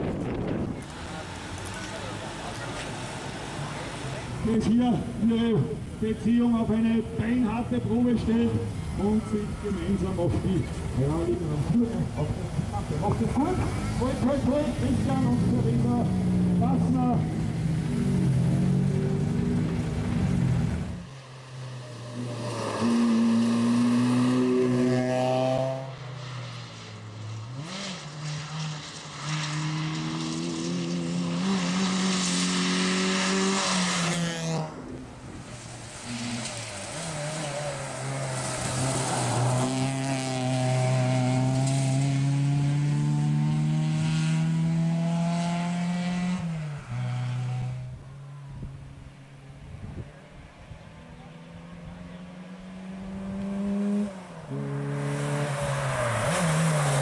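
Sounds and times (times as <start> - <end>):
rally car engine revving: 0.0 - 48.8, 50.2 - 57.0.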